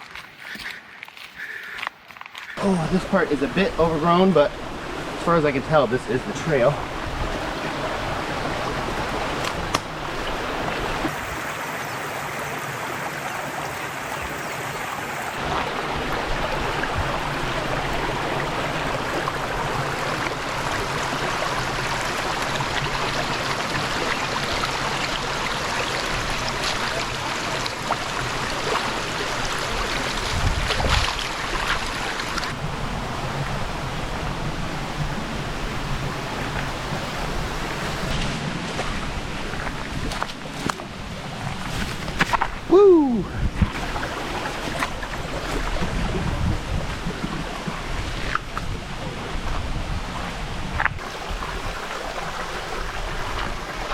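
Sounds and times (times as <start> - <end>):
flowing stream rushing: 2.5 - 53.9.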